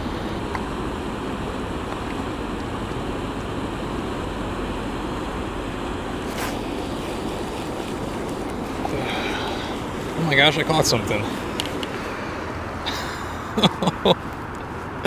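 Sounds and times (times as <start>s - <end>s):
water rushing from spillway: 0.0s - 14.2s.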